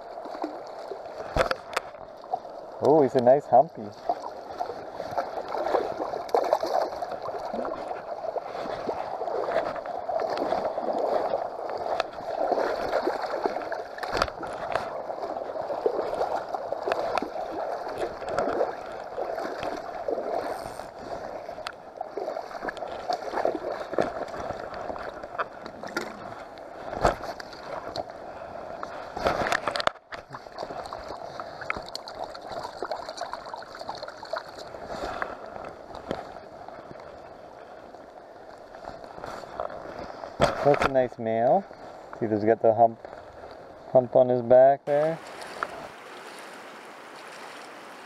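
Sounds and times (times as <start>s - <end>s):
fish splashing and thrashing: 0.0s - 3.2s, 3.8s - 41.0s, 45.1s - 48.0s
running river: 0.0s - 48.0s.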